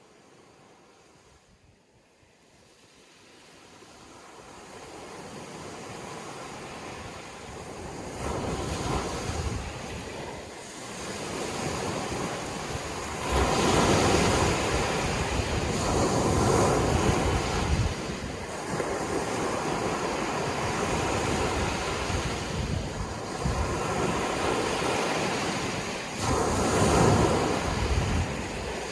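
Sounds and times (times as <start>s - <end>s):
sea waves washing onto shore: 2.1s - 28.9s
wind buffeting microphone: 5.0s - 28.9s.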